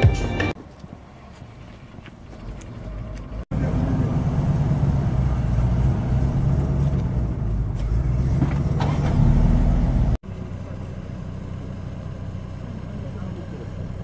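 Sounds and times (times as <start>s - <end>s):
car engine idling: 0.6s - 14.0s.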